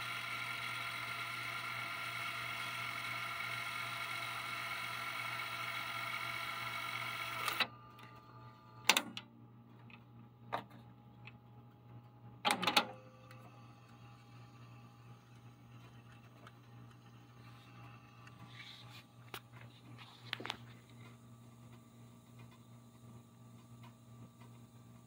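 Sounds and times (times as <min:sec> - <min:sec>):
cassette deck rewinding whir: 0:00.0 - 0:09.3, 0:12.4 - 0:25.0.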